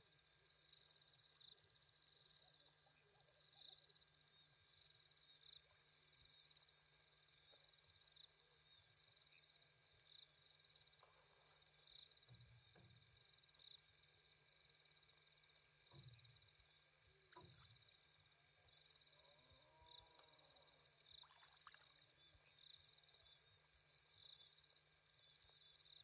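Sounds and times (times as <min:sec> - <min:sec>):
night insects chirring: 0:00.2 - 0:26.0.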